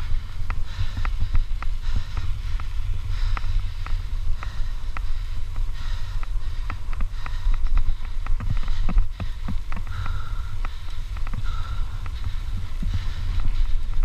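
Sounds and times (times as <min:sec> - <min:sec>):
bike clicks and rattles: 0:00.0 - 0:14.0
wind rumble on microphone: 0:00.0 - 0:14.0.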